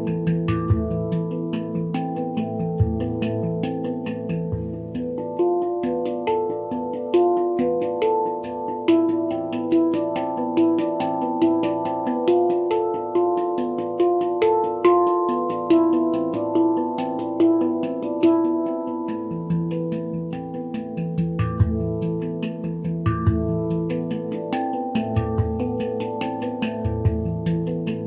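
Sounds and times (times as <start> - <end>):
handpan notes ringing: 0.0 - 28.0.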